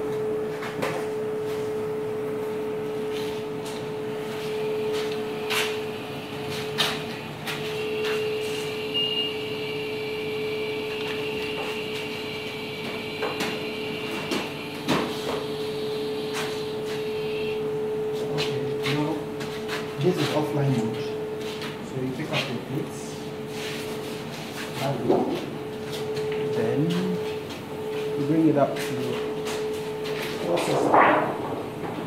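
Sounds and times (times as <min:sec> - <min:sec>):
high machine whine: 0:00.0 - 0:32.0
machine humming: 0:00.0 - 0:32.0.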